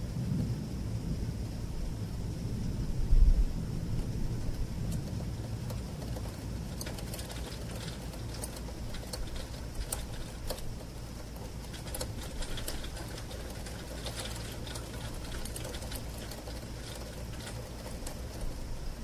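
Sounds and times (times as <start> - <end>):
steady low rumble: 0.0 - 19.0
raindrops ticking on window: 1.4 - 19.0.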